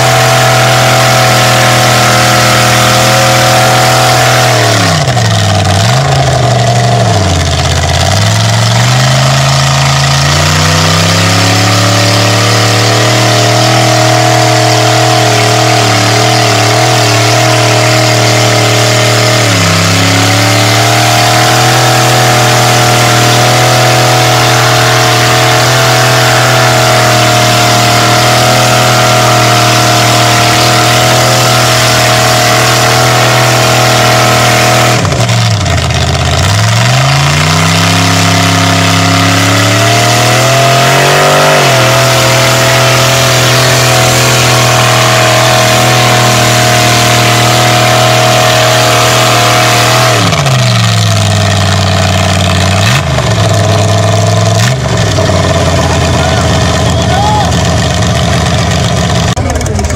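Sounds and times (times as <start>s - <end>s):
buggy engine revving: 0.0s - 59.9s.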